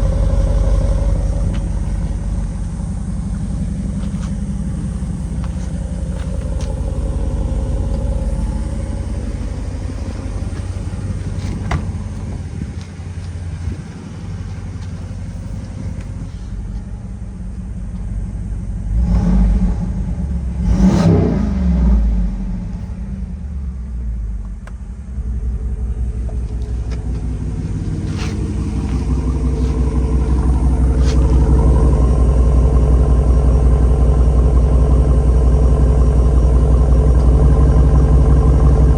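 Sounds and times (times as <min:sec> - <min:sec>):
engine exhaust revving: 0:00.0 - 0:24.4, 0:25.2 - 0:38.9.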